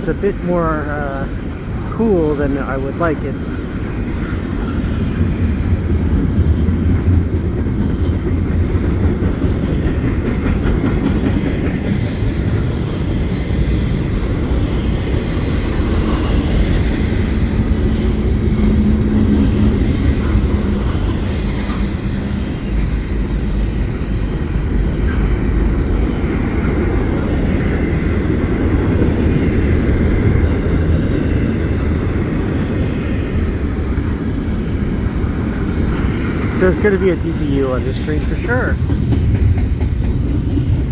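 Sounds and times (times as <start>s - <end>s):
freight train rumbling past: 0.0s - 40.9s
wheels clacking over rail joints: 3.4s - 37.6s, 38.2s - 40.9s.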